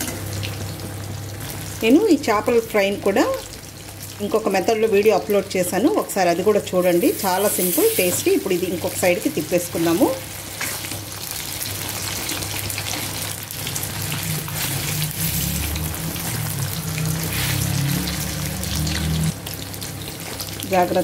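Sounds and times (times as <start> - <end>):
fish sizzling in oil: 0.0 - 21.0.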